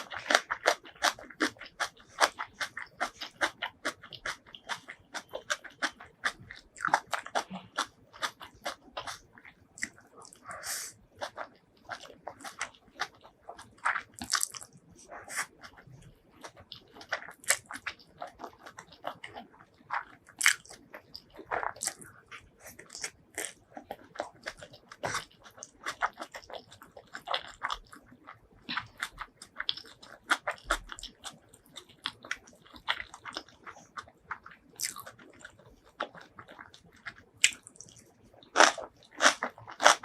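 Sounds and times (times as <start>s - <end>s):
person chewing crunchy food: 0.0s - 40.0s.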